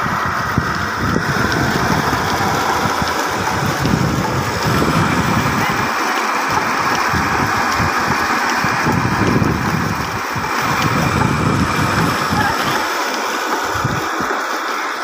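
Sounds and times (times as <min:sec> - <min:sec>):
low motor rumble: 0:00.0 - 0:12.9
water rushing from a pipe: 0:00.0 - 0:15.0.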